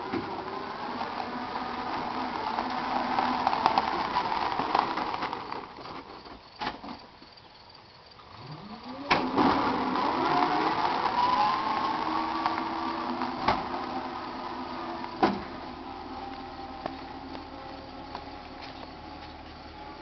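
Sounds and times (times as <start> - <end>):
electric motor whining: 0.0 - 5.8, 8.4 - 20.0.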